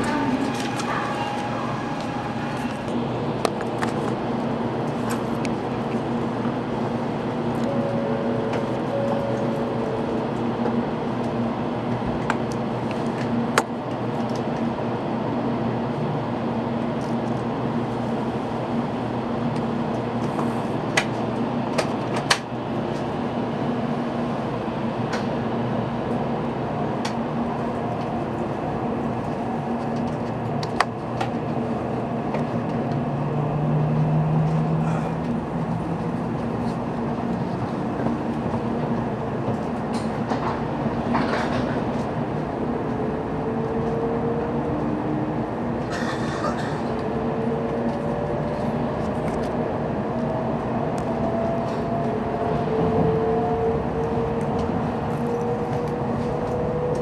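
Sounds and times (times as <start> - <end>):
train cabin rushing hum: 0.0 - 57.0.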